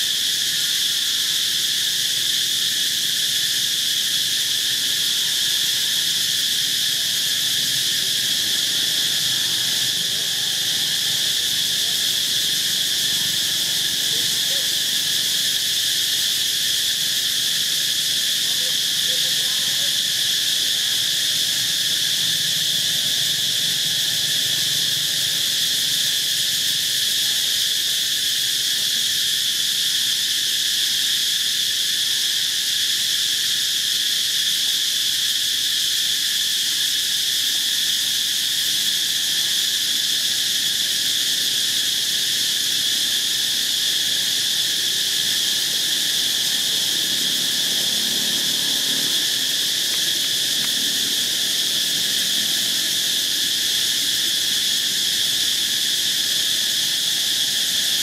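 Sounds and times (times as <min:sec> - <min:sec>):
insects buzzing chorus: 0:00.0 - 0:58.0.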